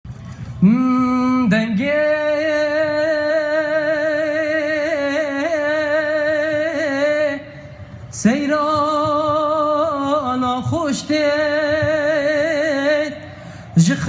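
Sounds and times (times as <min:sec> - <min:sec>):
person singing folk song with vibrato: 0:00.6 - 0:14.0.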